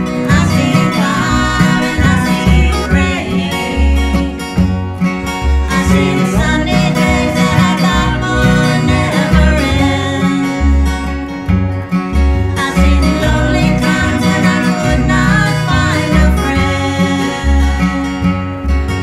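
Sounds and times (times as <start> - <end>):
women singing: 0.0 - 4.8, 5.4 - 11.3, 12.4 - 18.4
acoustic guitars strummed and picked: 0.0 - 19.0
plucked upright bass: 0.0 - 19.0.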